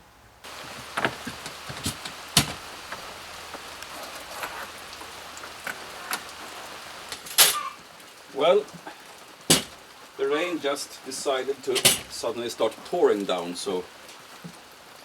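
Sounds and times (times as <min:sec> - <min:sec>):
heavy rain pouring: 0:00.4 - 0:15.0.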